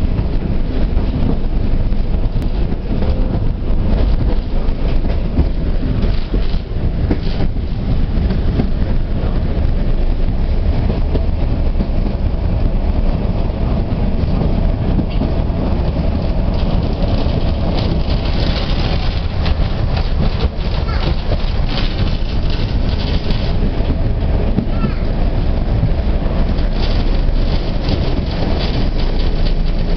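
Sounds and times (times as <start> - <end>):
tram clicks: 0.0 - 29.9
tram wheels rumbling on rails: 0.0 - 29.9.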